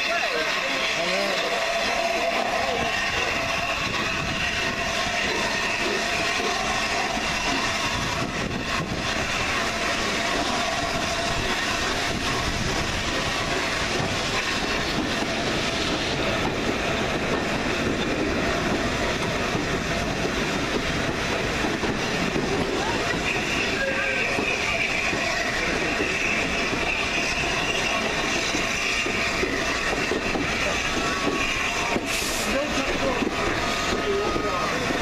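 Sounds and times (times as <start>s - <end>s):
train wheels on track: 0.0s - 35.0s.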